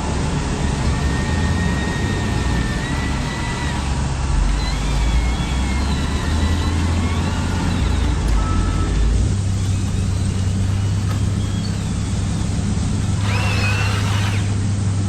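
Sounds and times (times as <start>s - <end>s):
model vehicle motor rumble: 0.0s - 15.0s.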